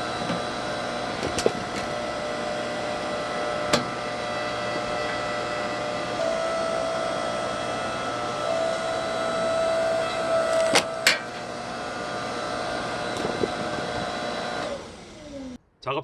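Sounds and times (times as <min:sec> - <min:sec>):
hydraulic log splitter whine: 0:00.0 - 0:15.6.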